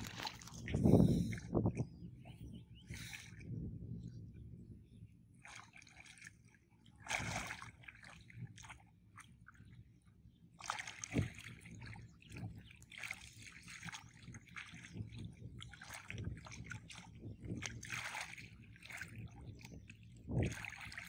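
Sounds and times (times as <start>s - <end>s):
muddy water splashing: 0.0s - 3.7s, 5.3s - 21.0s.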